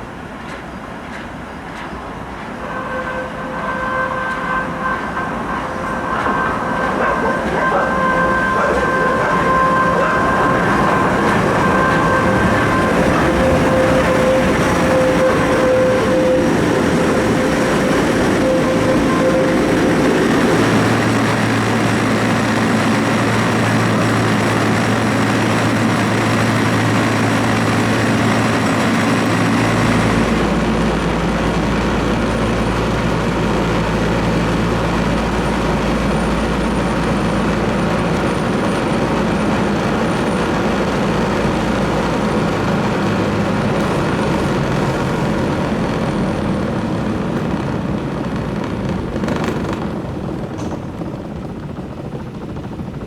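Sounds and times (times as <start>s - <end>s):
tram drone and rolling: 0.0s - 53.0s
high whine: 2.6s - 50.8s.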